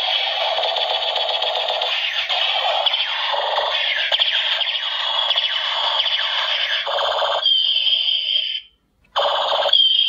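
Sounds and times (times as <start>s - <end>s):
toy gun electronic rattle: 0.0s - 8.6s, 9.2s - 10.0s.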